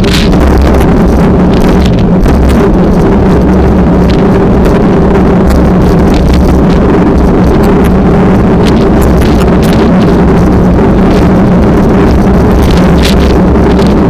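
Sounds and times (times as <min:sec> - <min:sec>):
low drone: 0:00.0 - 0:14.0
wind buffeting microphone: 0:00.0 - 0:14.0.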